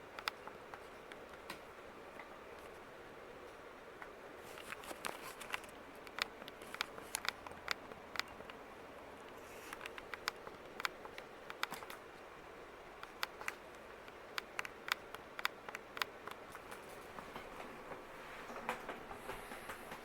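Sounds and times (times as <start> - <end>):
ceiling fan whirring: 0.0 - 20.0.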